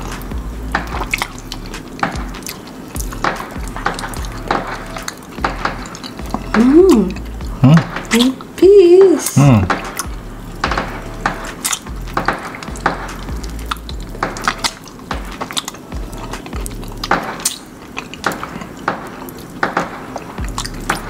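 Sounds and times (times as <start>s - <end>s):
wet chewing and lip-smacking: 0.0s - 8.6s, 9.2s - 21.0s.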